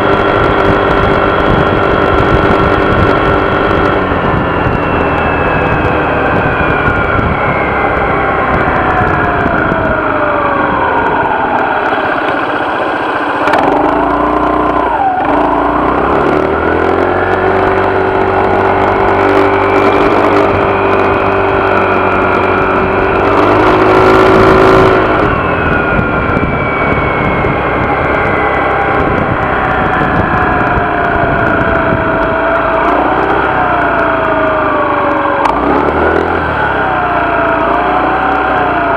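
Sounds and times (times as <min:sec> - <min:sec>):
scooter engine whine: 0:00.0 - 0:38.9.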